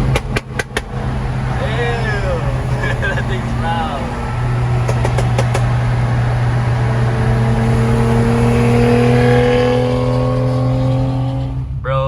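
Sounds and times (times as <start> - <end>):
car engine exhaust drone: 0.0 - 12.0.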